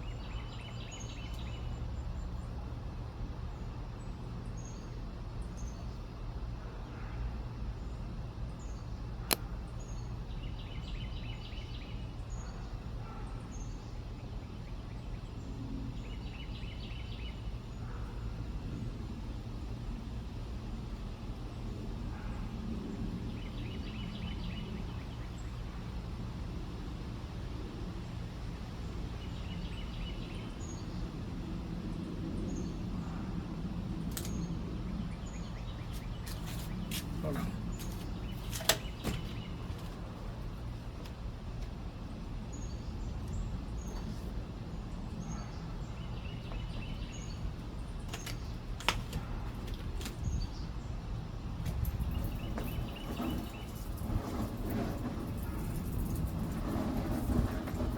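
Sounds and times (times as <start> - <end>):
low outdoor rumble: 0.0 - 57.9.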